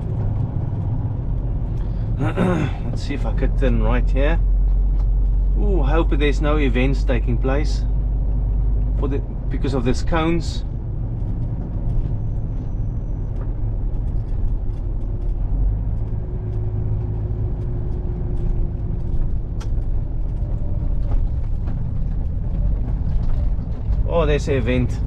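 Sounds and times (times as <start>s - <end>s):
lorry engine rumble: 0.0s - 25.0s
road noise: 0.0s - 25.0s.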